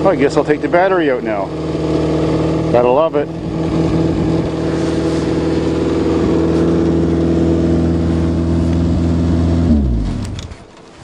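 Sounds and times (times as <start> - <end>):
engine winding down: 0.0 - 10.7
car engine idling: 0.0 - 11.0.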